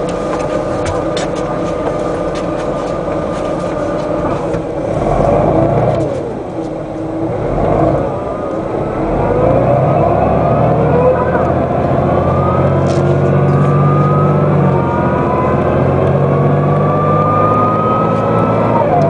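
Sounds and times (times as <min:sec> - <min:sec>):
bus diesel engine revving: 0:00.0 - 0:19.0.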